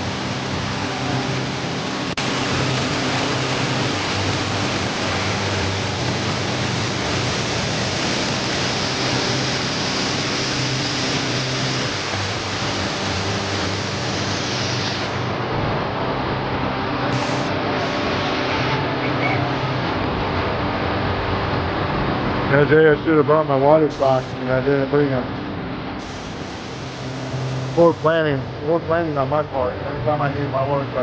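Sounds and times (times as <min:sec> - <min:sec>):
waterfall roaring: 0:00.0 - 0:22.8, 0:23.7 - 0:29.4.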